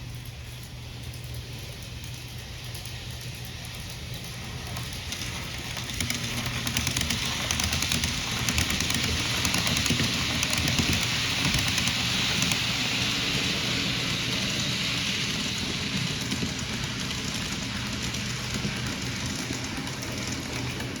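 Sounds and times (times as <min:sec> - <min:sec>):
model train wheels clattering: 0:00.0 - 0:21.0.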